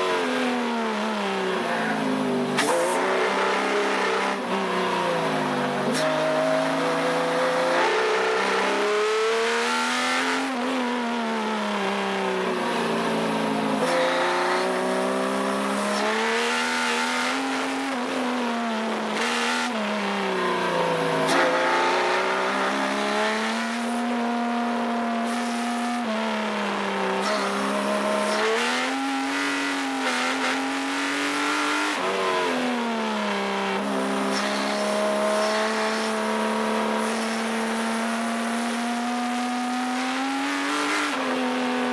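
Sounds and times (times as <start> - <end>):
racing car engine revving: 0.0 - 41.9.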